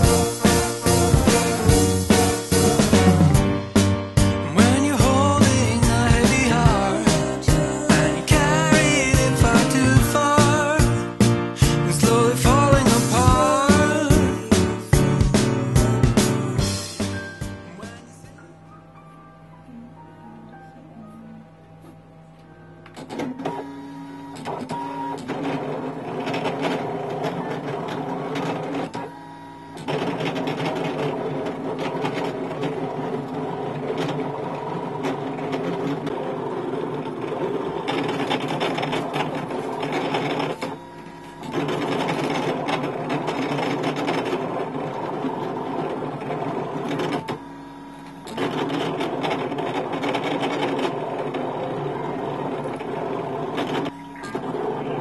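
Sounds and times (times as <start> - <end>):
cutting machine motors whirring: 0.0 - 3.8, 4.4 - 18.5, 22.8 - 55.0.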